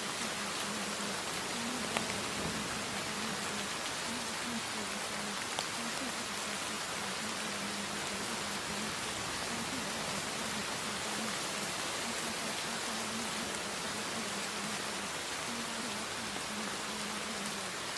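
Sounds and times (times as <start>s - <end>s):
rain hissing: 0.0s - 17.9s.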